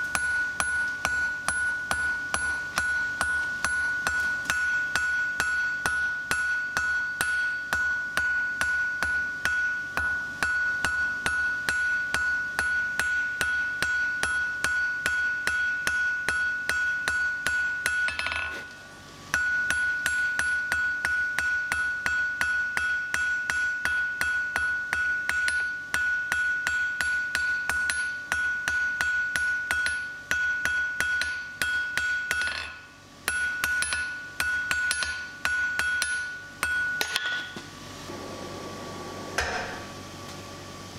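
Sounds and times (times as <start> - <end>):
anvil ringing: 0.0 - 18.7, 19.3 - 37.6, 39.4 - 40.2
hammer striking steel on anvil: 0.0 - 38.2, 39.4 - 40.5.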